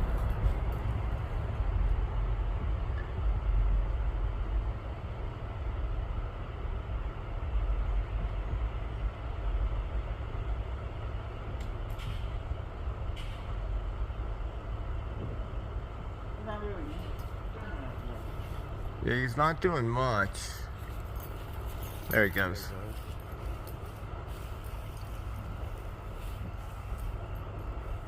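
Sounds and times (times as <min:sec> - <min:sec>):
low vehicle rumble: 0:00.0 - 0:28.0.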